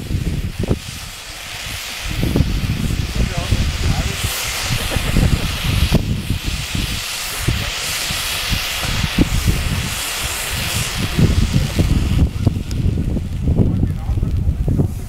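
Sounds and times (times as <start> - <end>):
fireworks hissing: 0.0 - 15.0
low uneven rumble: 0.1 - 15.0.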